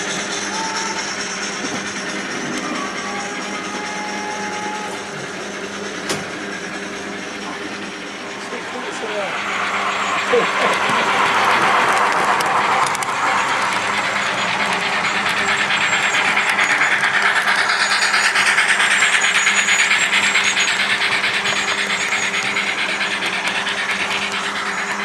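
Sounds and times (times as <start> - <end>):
model train motor hum: 0.0 - 25.0
model train wheels clicking on rails: 0.0 - 25.0.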